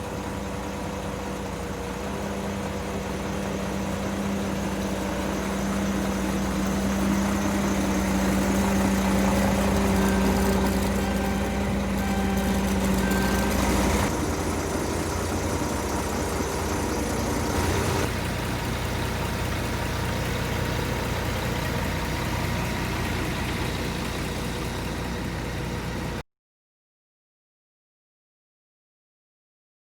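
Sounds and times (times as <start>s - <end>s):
diesel truck engine idling: 0.0s - 26.2s.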